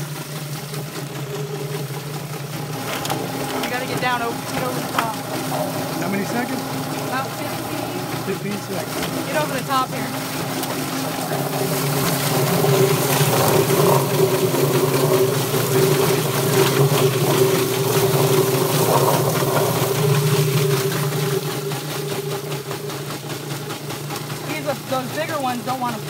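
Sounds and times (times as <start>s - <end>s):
chicken plucker motor humming: 0.0s - 26.0s.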